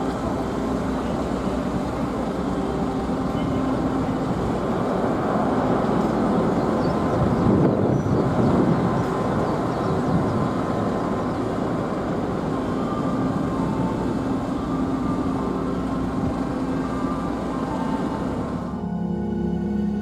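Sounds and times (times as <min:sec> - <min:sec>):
faint music tones: 0:00.0 - 0:20.0
vehicle rumbling under way: 0:00.0 - 0:20.0.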